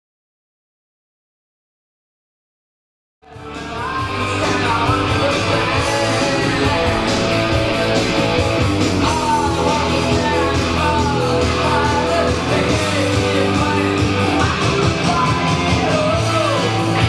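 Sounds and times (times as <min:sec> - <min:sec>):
rock music with electric guitars: 0:03.2 - 0:17.0
person singing: 0:03.3 - 0:17.0.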